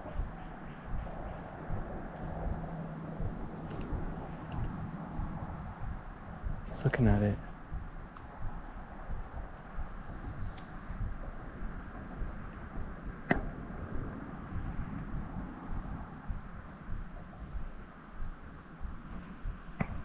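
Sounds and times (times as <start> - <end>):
insects buzzing drone: 0.0 - 20.0
low rumbling background: 0.0 - 20.0.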